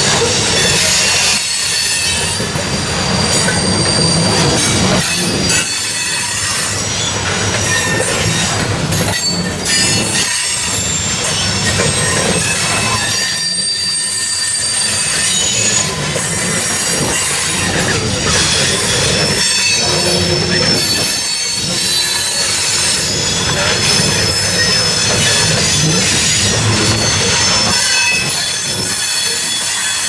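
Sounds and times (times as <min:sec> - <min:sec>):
steel wheels squealing on rails: 0:00.0 - 0:30.0.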